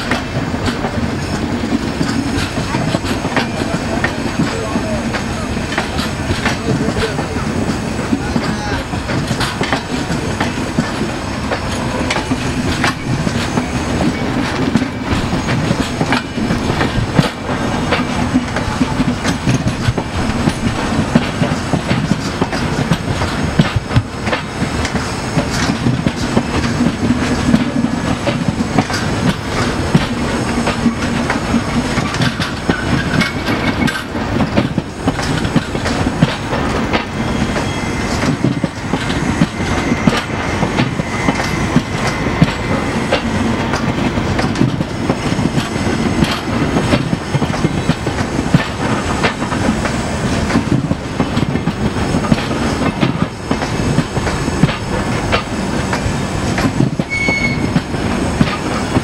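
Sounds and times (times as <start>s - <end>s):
train coaches rumbling past: 0.0s - 59.0s
wheels clicking over rail joints: 0.0s - 59.0s.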